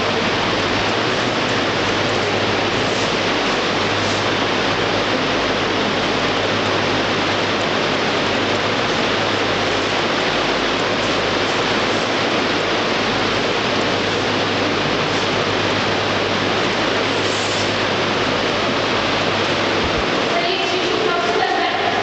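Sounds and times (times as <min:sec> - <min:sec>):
loud steady hiss: 0:00.0 - 0:22.0.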